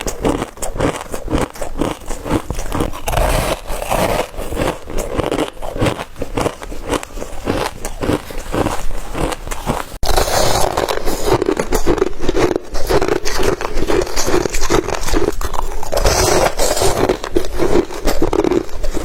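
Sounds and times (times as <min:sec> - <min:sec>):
crushed ice crunching in teeth: 0:00.0 - 0:19.0.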